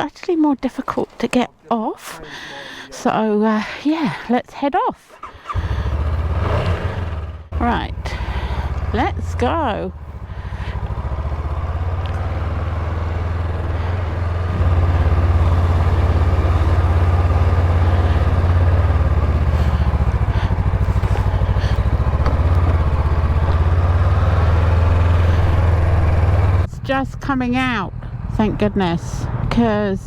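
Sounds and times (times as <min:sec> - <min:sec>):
motorcycle engine running: 0:05.2 - 0:30.0.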